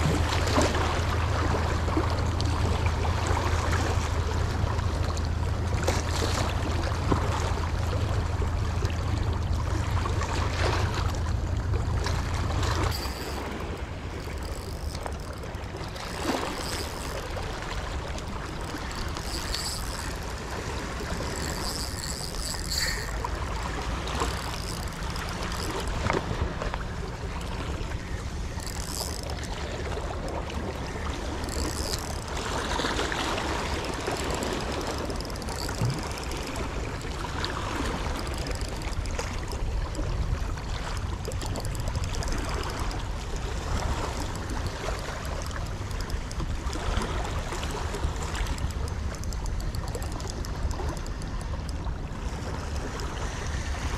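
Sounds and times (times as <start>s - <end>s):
seawater lapping and splashing: 0.0s - 53.9s.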